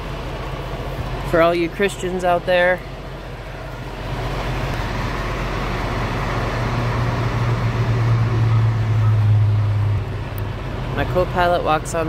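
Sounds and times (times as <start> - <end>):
engine rumble: 0.0 - 12.0
low hum: 0.0 - 12.0
traffic noise: 0.0 - 12.0.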